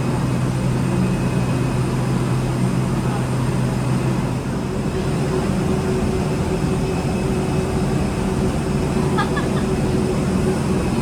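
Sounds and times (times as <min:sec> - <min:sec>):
airliner engine drone: 0:00.0 - 0:11.0.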